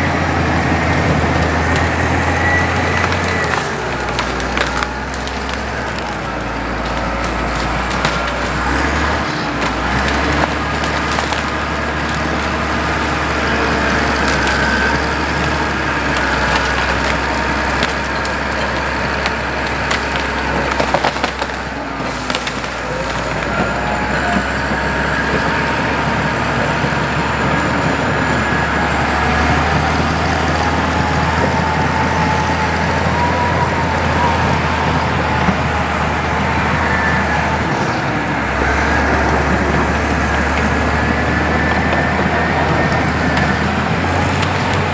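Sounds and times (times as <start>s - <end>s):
bulldozer diesel engine running: 0.0s - 44.9s
wood and brush cracking: 0.0s - 44.9s.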